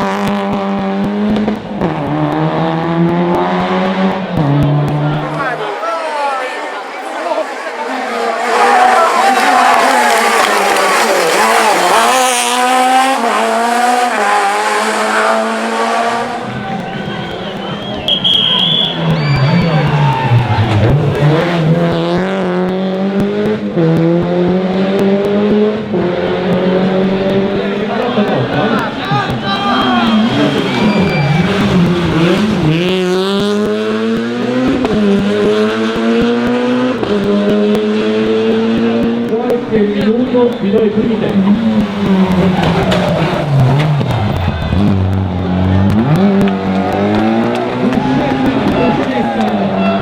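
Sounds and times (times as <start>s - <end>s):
rally car engine running hard: 0.0s - 5.4s, 8.0s - 50.0s.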